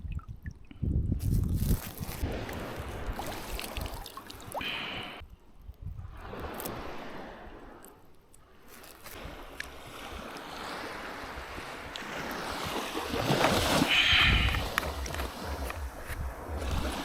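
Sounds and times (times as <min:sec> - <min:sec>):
wind rumble on microphone: 0:00.0 - 0:04.0, 0:04.6 - 0:07.9, 0:09.1 - 0:17.0
water splashing and sloshing: 0:00.0 - 0:17.0.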